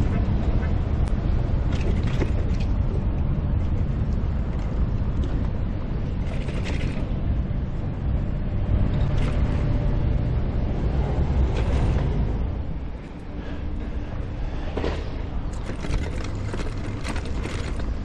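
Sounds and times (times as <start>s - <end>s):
wind and road noise rumble: 0.0s - 18.0s.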